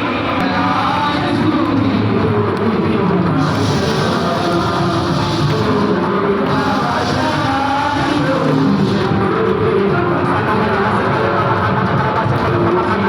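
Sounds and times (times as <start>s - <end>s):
amplified worship band music: 0.0s - 13.0s
person singing: 0.0s - 13.0s.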